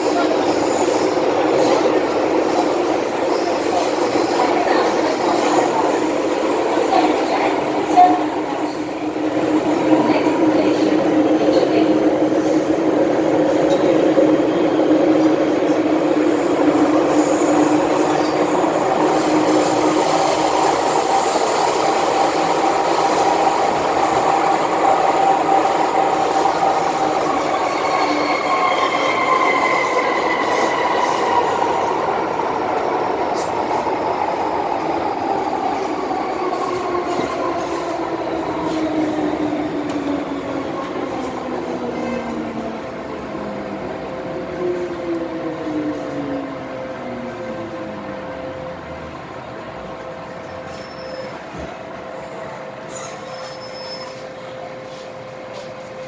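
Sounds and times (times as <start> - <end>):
train rumble with electric whine: 0.0 - 56.0.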